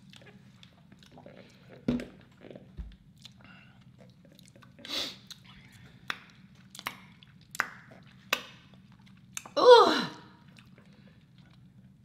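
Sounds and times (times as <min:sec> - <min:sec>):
wet chewing and mouth noises: 0:00.0 - 0:09.6, 0:10.4 - 0:12.0.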